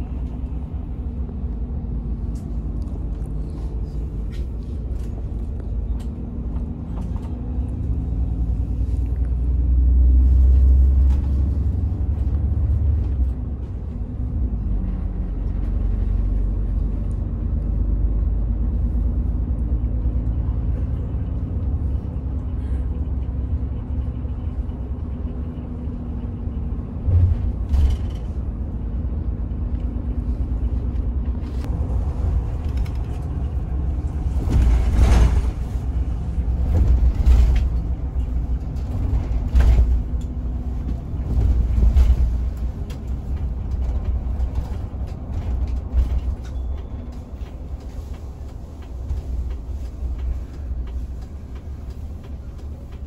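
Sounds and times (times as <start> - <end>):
bus engine and road rumble: 0.0 - 53.0.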